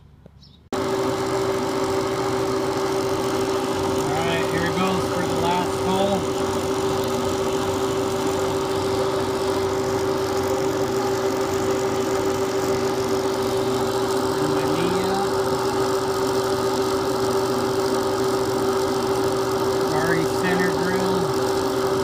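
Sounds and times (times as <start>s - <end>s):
milling machine spindle humming: 0.8s - 22.0s.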